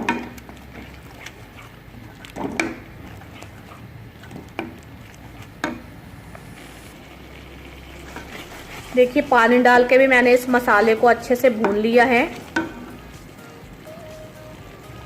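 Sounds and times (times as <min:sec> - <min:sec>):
spoon stirring in cooking pan: 0:00.0 - 0:15.0.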